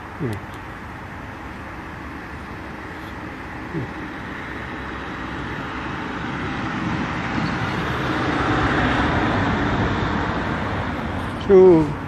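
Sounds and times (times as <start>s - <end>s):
vehicle passing: 1.5s - 12.0s.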